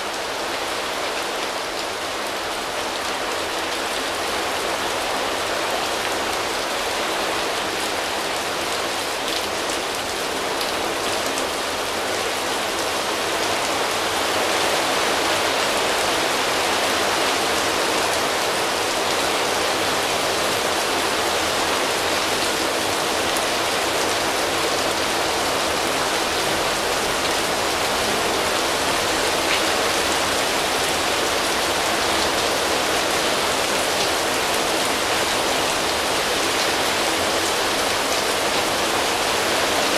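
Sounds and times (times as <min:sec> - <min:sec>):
rain pattering on leaves: 0:00.1 - 0:39.9.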